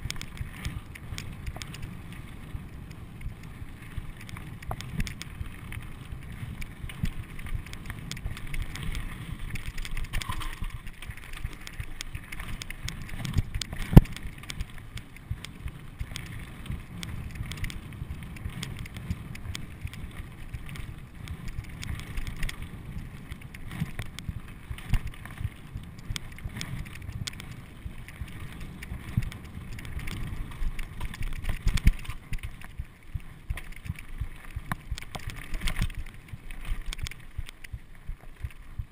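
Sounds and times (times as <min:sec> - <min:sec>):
bike clicks and knocks: 0:00.0 - 0:38.9
tyres rumbling on loose stones: 0:00.0 - 0:38.9.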